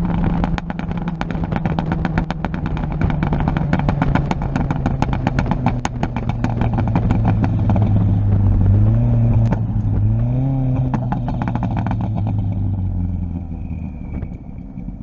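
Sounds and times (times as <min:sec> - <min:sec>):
car engine throttle blips: 0:00.0 - 0:15.0
exhaust pops crackling: 0:00.0 - 0:15.0.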